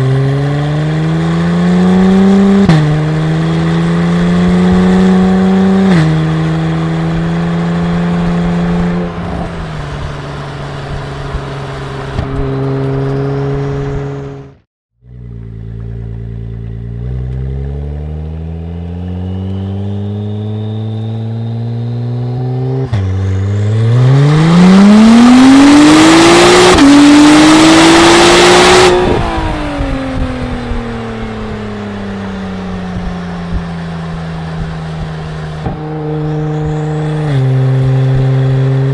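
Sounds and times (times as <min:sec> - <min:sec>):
car engine revving through exhaust: 0:00.0 - 0:38.9.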